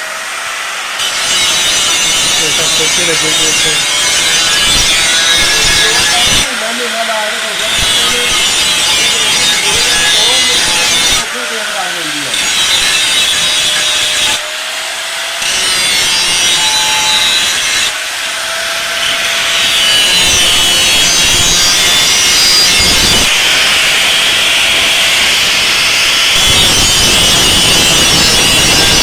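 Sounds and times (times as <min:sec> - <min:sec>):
fodder chopping machine rasping: 0:00.0 - 0:29.0.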